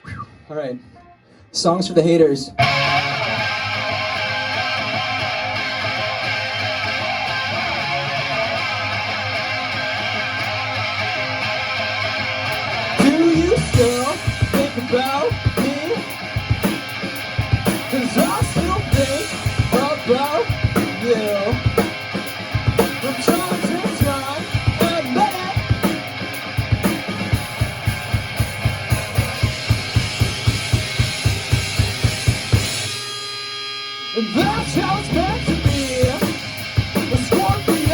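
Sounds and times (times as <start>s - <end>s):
electric guitar with effects: 1.9s - 37.9s
rock band playing: 1.9s - 37.9s.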